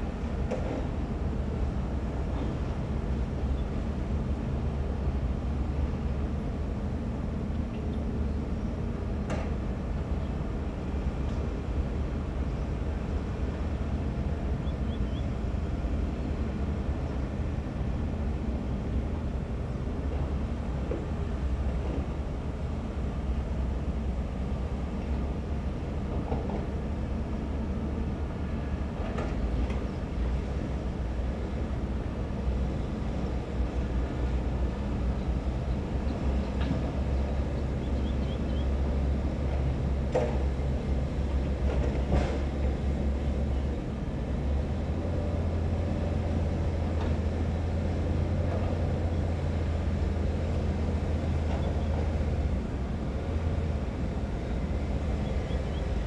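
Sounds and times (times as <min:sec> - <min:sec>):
excavator diesel engines rumbling: 0:00.0 - 0:56.0.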